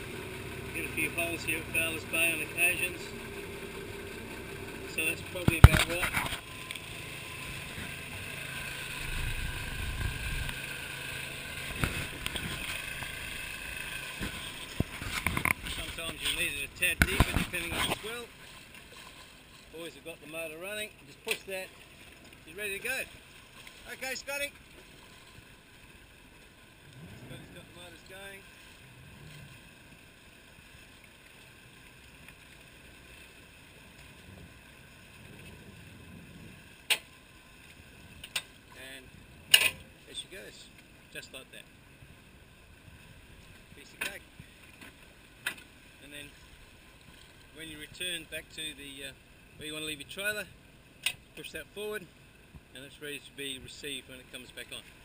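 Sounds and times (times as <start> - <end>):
engine low rumble: 0.0 - 19.0, 19.7 - 55.0
boat motors running: 0.0 - 55.0
wind: 0.0 - 55.0.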